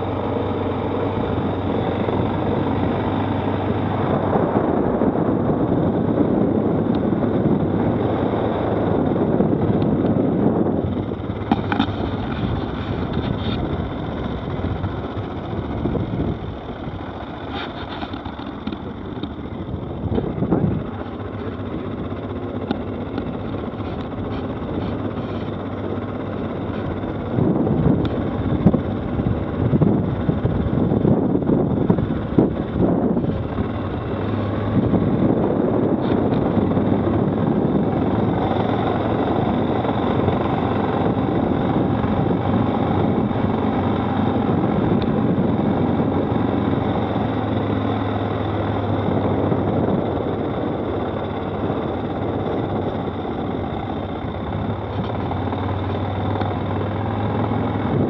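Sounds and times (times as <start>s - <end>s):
quad bike engine running: 0.0s - 58.0s
wind noise on microphone: 0.0s - 58.0s.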